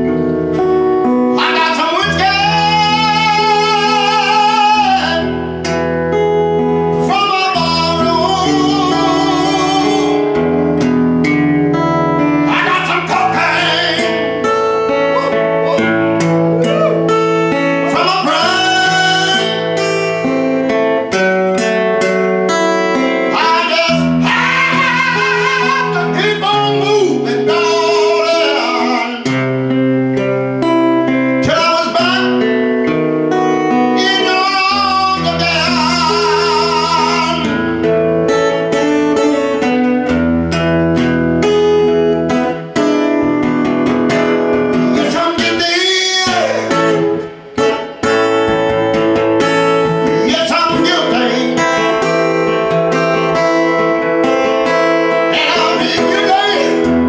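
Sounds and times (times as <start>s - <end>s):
strummed acoustic guitar: 0.0s - 57.0s
man singing: 1.0s - 11.0s, 11.7s - 29.8s, 30.6s - 39.6s, 44.7s - 49.0s, 49.7s - 57.0s.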